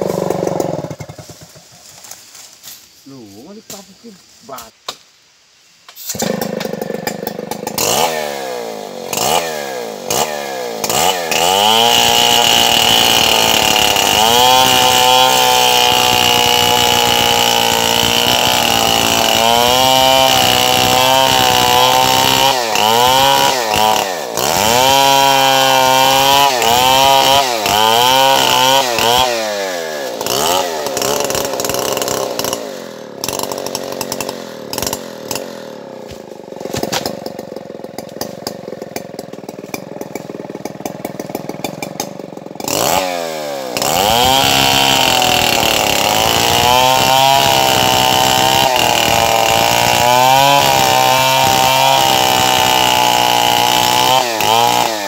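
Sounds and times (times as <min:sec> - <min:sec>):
chainsaw cutting log: 0:00.0 - 0:02.8, 0:05.9 - 0:55.0.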